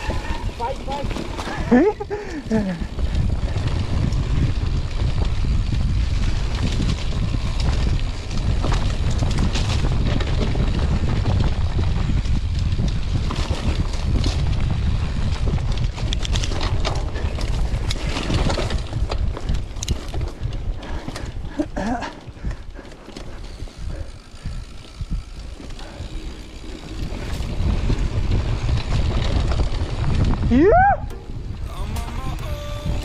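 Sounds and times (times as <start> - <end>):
bike clicks and clatter: 0.0 - 31.7
wind rumble on microphone: 0.0 - 33.0.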